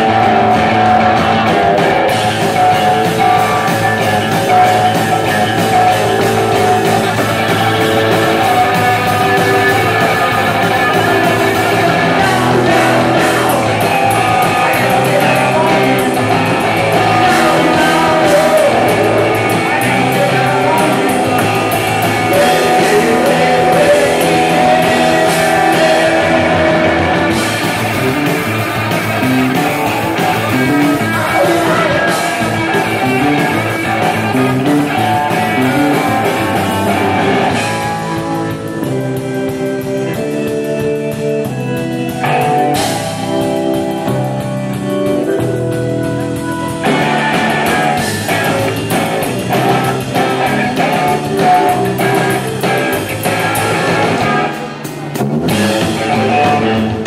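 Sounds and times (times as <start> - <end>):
person singing: 0.0 - 45.2, 46.7 - 57.0
bass guitar: 0.0 - 57.0
drum kit: 0.0 - 57.0
electric guitars: 0.0 - 57.0.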